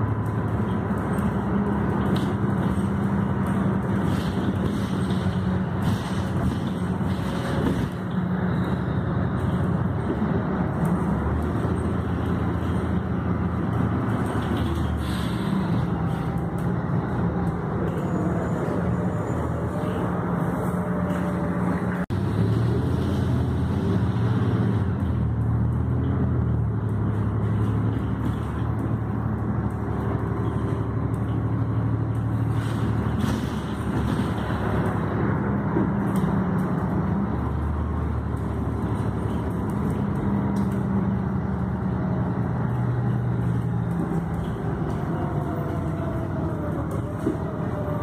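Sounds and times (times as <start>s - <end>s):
bus engine drone: 0.0s - 48.0s
road noise: 0.0s - 48.0s.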